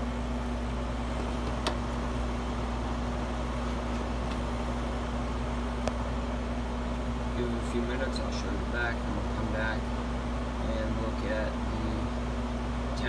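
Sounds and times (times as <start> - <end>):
air conditioner fan blowing: 0.0 - 13.0
compressor humming: 0.0 - 13.0.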